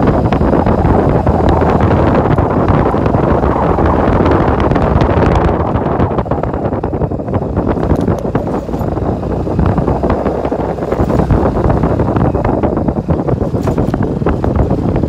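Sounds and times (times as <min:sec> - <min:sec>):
knocks and rattles on rough road: 0:00.0 - 0:15.0
motorbike engine and tyre noise: 0:00.0 - 0:15.0
wind buffeting microphone: 0:00.0 - 0:15.0.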